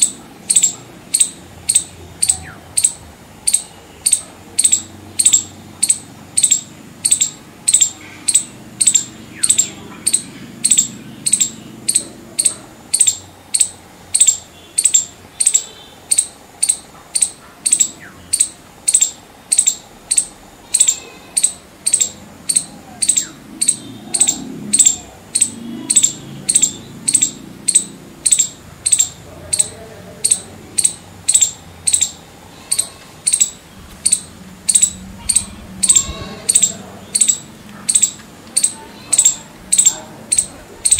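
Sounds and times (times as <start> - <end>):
squirrel high-pitched chip calls: 0.0 - 40.9.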